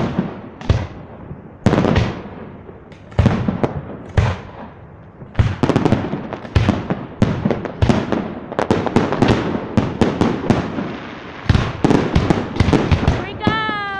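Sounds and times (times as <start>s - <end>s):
fireworks bangs and cracks: 0.0s - 13.9s
heavy firework booms: 0.0s - 13.9s.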